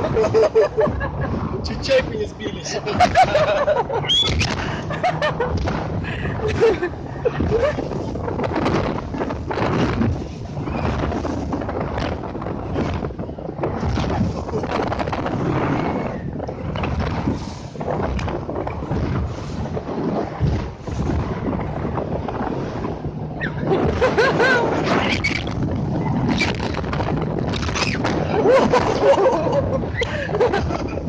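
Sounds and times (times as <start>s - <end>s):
motorboat engine humming: 0.0s - 31.0s
wind buffeting microphone: 0.0s - 31.0s.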